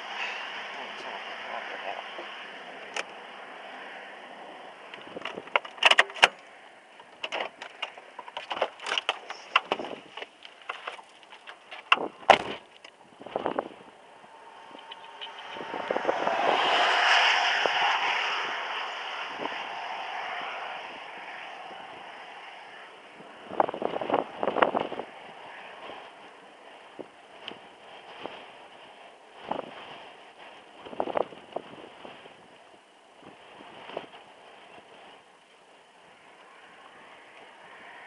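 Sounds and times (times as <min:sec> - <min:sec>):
rushing noise: 0:00.0 - 0:08.2, 0:11.6 - 0:38.0.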